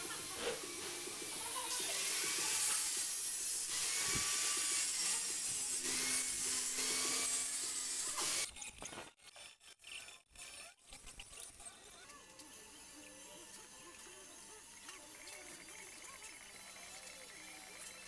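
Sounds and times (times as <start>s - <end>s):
angle grinder cutting metal: 0.0s - 18.0s.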